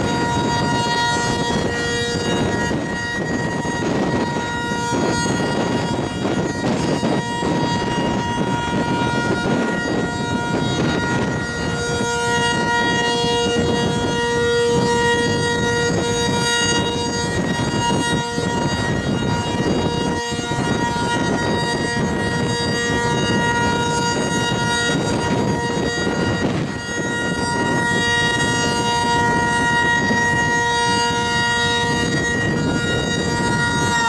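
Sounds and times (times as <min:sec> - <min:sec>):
warning siren steady note: 0:00.0 - 0:34.0
wind rumble on microphone: 0:00.0 - 0:34.0.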